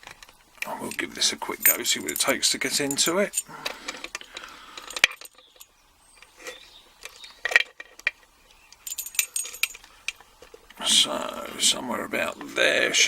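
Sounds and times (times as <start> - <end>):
metal clicks of lock-picking tools: 0.0 - 10.8.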